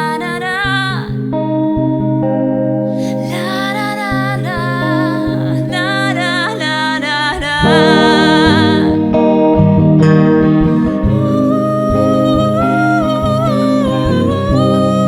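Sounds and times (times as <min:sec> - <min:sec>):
person singing: 0:00.0 - 0:01.3, 0:03.0 - 0:09.2, 0:10.4 - 0:15.0
acoustic guitar: 0:00.0 - 0:15.0.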